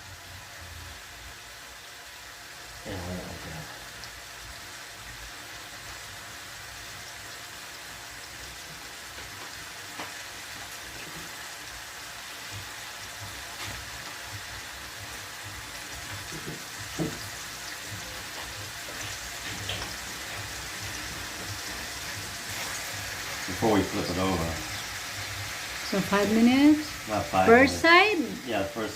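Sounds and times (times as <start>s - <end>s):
chicken sizzling in oil: 0.0s - 28.9s.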